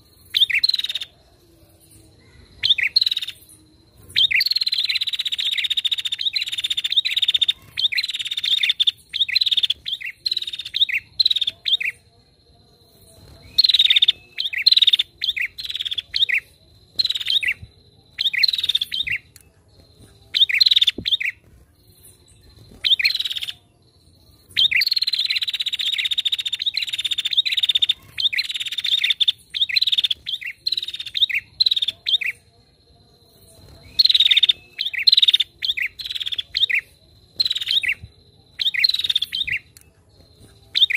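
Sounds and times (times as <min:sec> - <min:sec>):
bird sharp chirps and trill: 0:00.0 - 0:01.2, 0:01.8 - 0:12.1, 0:12.8 - 0:32.5, 0:33.3 - 0:40.9.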